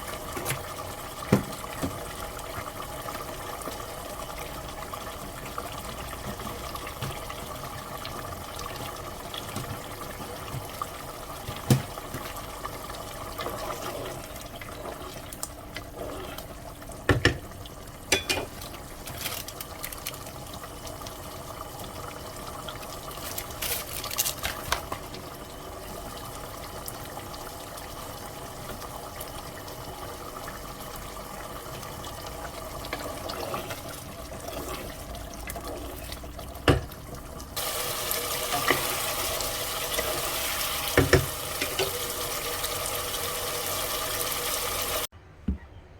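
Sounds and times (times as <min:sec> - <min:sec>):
liquid bubbling in cooking: 0:00.0 - 0:45.1.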